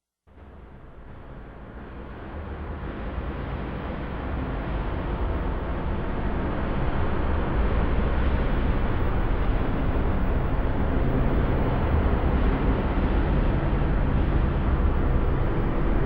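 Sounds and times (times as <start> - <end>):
dark ambient drone: 0.4 - 16.0.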